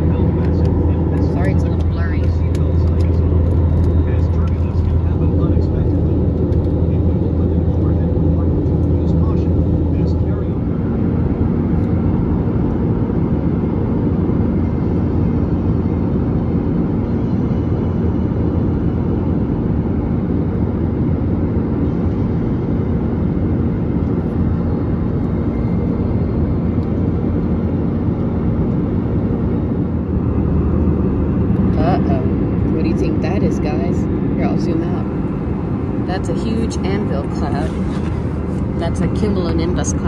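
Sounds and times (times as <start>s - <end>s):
aircraft cabin engine rush: 0.0s - 40.0s
low steady hum: 0.0s - 40.0s.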